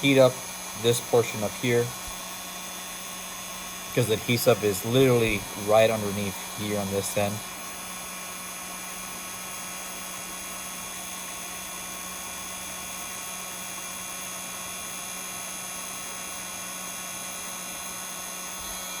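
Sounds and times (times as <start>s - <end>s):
heat gun blowing: 0.0s - 19.0s.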